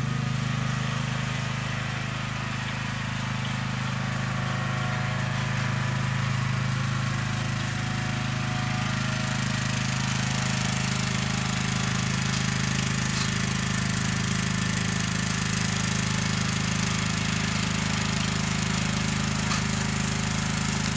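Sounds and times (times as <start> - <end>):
riding mower engine running: 0.0 - 20.9.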